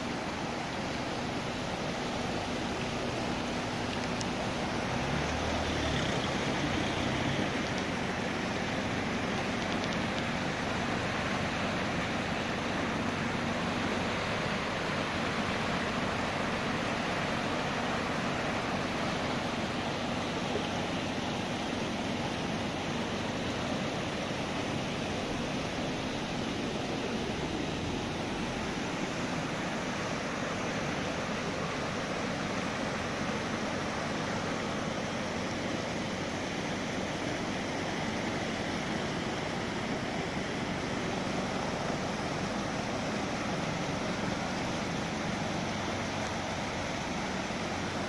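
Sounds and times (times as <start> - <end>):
floodwater rushing over pavement: 0.0 - 48.0.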